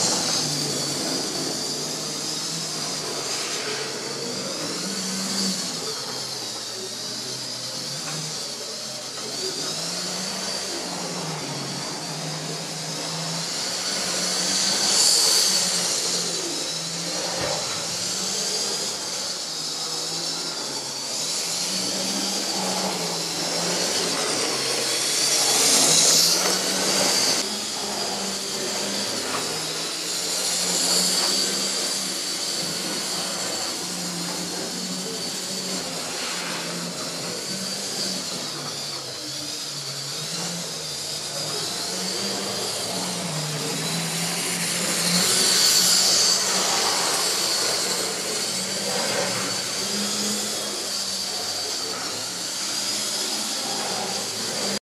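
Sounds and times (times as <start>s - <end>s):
model train motors whining: 0.0s - 54.8s.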